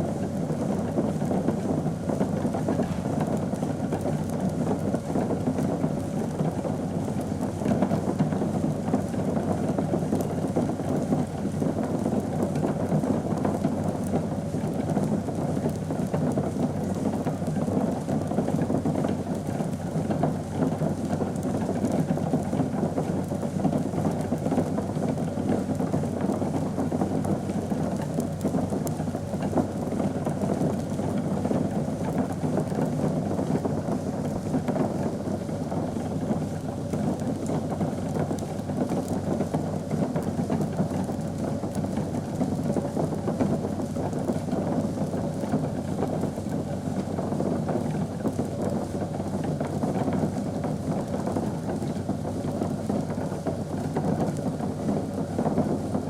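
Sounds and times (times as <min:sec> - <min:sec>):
liquid bubbling at a boil: 0:00.0 - 0:56.0.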